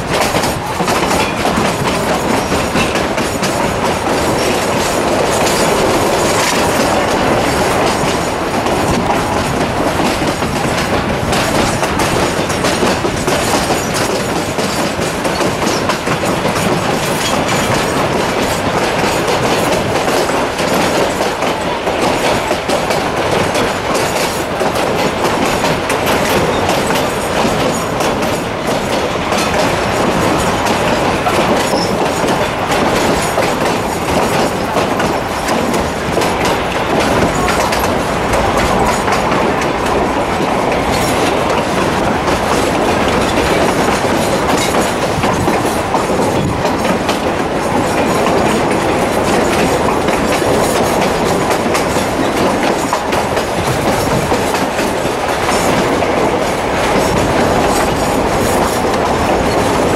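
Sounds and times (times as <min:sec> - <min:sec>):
train rumble: 0:00.0 - 0:59.9
wheels clattering over track: 0:00.0 - 0:59.9.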